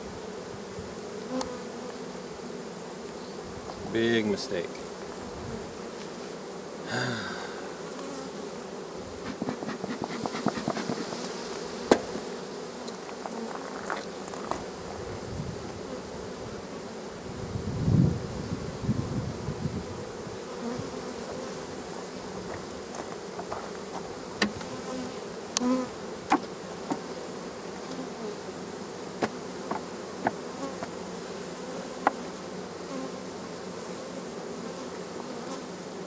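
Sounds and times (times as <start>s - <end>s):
bees buzzing: 0.0s - 36.0s.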